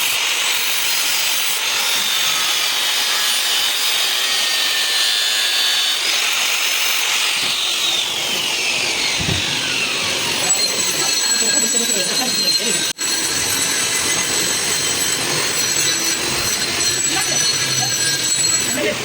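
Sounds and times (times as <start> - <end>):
power tool grinding metal: 0.0 - 19.0.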